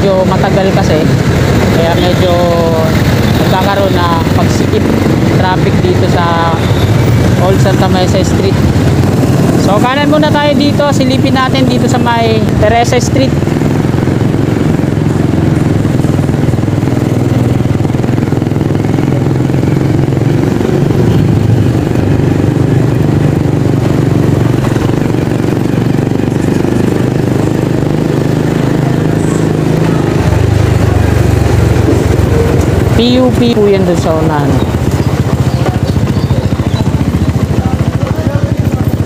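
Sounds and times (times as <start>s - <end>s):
scooter engine running: 0.0s - 39.0s.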